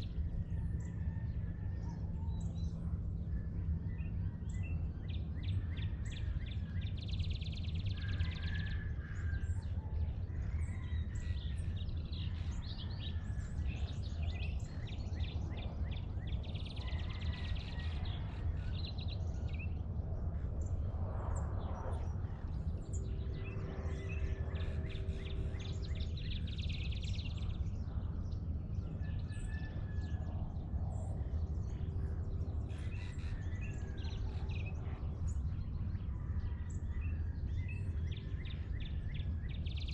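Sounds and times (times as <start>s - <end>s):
steady low rumble: 0.0s - 8.0s, 8.9s - 39.9s
birdsong and calls: 0.0s - 39.9s.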